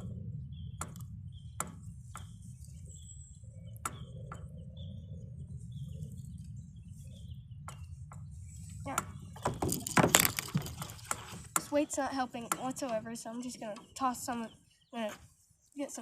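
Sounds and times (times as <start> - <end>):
steady low rumble: 0.0 - 15.8
small bird chirping: 0.0 - 16.0.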